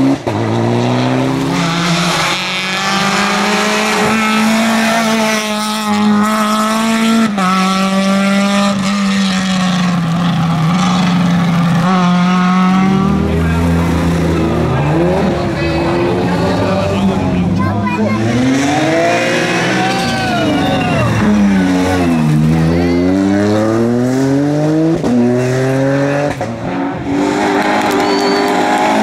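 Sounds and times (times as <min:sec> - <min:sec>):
rally car engine at high revs: 0:00.0 - 0:29.0.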